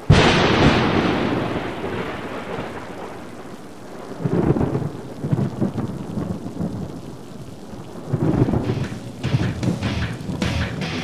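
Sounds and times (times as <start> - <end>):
crackle: 0.0 - 11.0
thunder-like rumble: 0.0 - 11.0.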